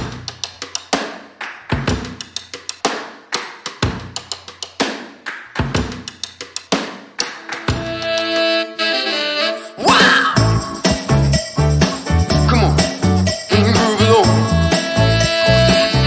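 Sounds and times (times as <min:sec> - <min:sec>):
drum kit playing a steady beat: 0:00.0 - 0:08.5, 0:10.0 - 0:16.0.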